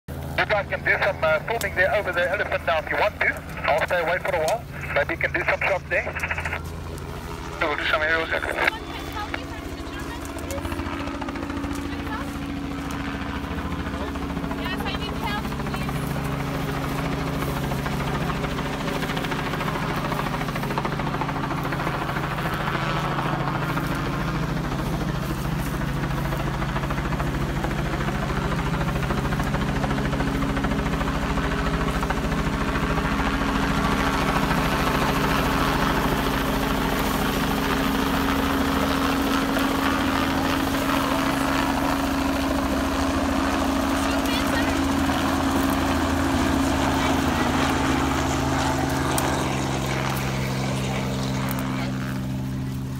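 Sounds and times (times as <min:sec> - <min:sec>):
helicopter rotor beating: 0:00.1 - 0:52.9.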